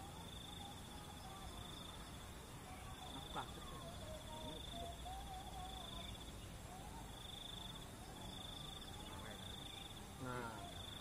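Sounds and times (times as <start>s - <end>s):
faint low outdoor background: 0.0s - 11.0s
insect trilling: 0.0s - 11.0s.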